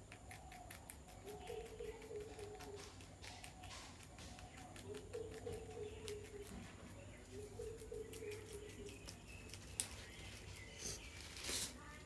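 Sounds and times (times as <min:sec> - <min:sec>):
rabbit chewing leaves: 0:00.0 - 0:12.0.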